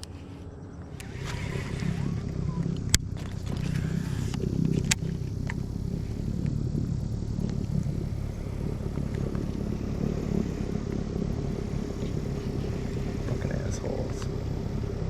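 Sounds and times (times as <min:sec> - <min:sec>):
motorboat engine droning: 0:00.0 - 0:15.0
sharp clicks: 0:00.8 - 0:15.0.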